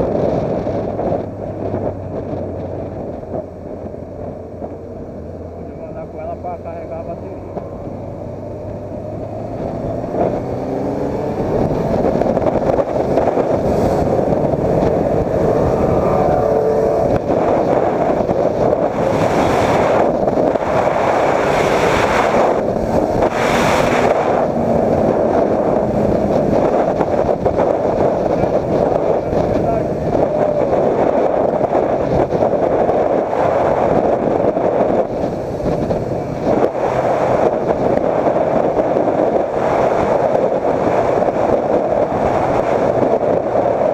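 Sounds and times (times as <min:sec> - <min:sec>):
motorcycle engine accelerating: 0:00.0 - 0:43.9
wind noise on microphone: 0:00.0 - 0:43.9.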